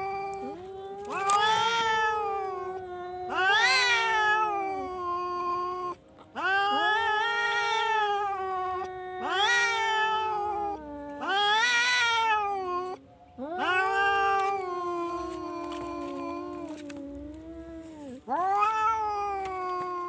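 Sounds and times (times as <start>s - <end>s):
cat yowling: 0.0s - 20.0s.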